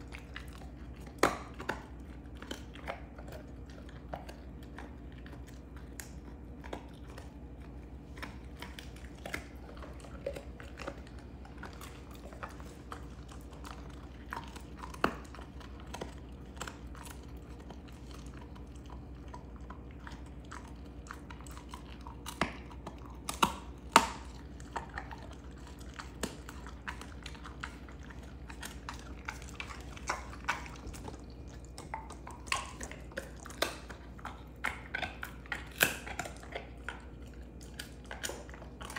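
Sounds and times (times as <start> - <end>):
dog crunching bone: 0.0 - 38.9.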